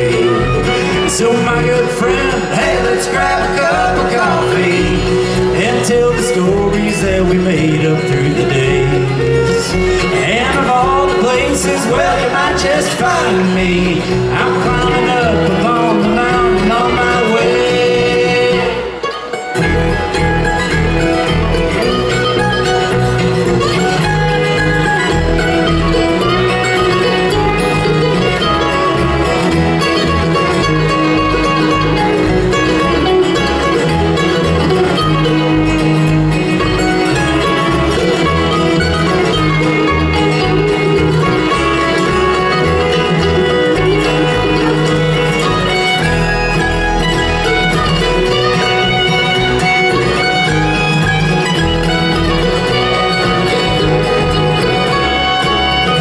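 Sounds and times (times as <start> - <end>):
bass line: 0.0 - 56.0
fiddle: 0.0 - 56.0
guitar: 0.0 - 56.0.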